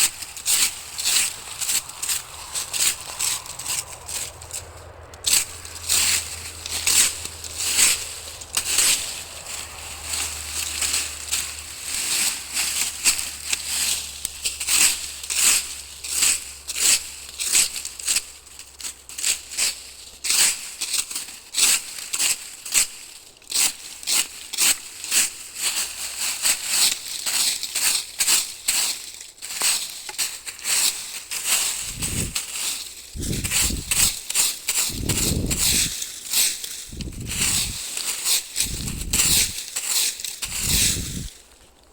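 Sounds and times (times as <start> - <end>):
footsteps on forest floor: 0.0 - 41.9.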